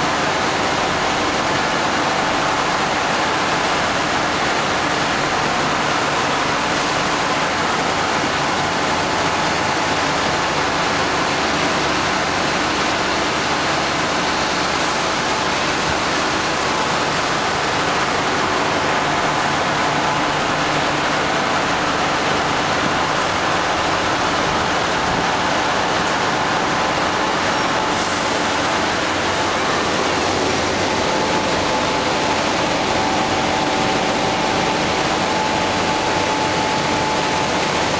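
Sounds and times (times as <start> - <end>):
ice machines rushing noise: 0.0 - 37.9.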